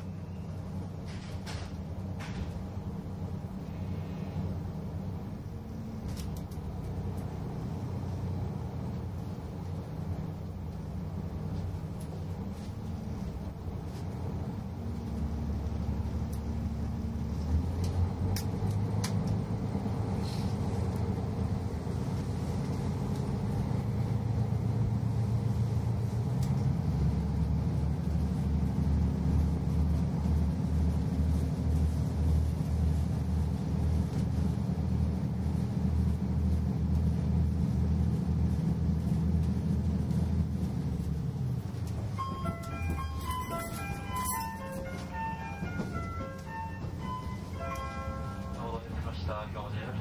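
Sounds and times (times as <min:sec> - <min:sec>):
diesel railcar engine under load: 0:00.0 - 0:50.0
train running gear rumble: 0:00.0 - 0:50.0.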